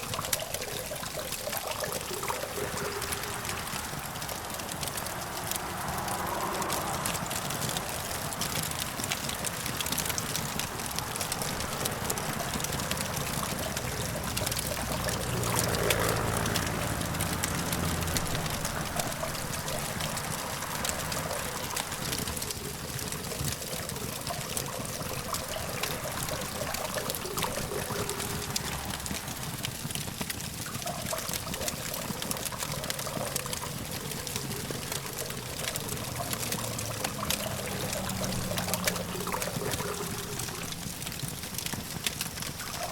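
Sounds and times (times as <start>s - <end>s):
campfire crackling and popping: 0.0s - 42.9s
distant traffic hum: 0.0s - 42.9s.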